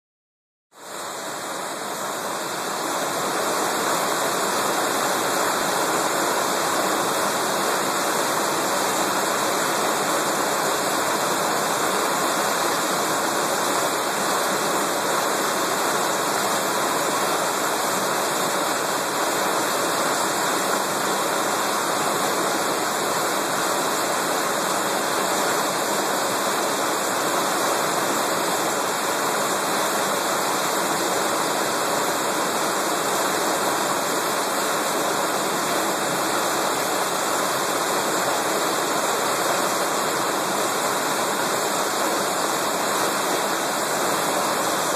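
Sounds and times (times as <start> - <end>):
water rushing over rocks: 0.8 - 44.9.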